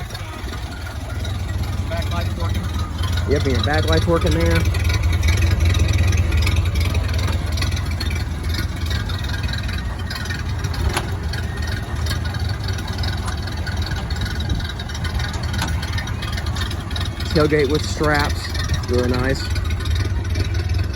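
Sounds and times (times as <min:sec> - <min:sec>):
truck engine idling: 0:00.0 - 0:20.9.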